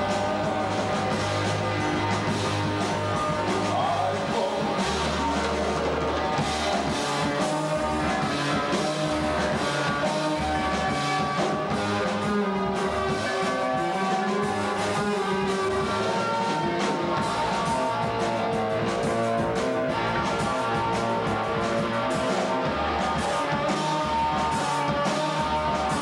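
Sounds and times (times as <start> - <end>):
bass guitar: 0.0 - 26.0
drum kit with cymbals: 0.0 - 26.0
electric guitar: 0.0 - 26.0.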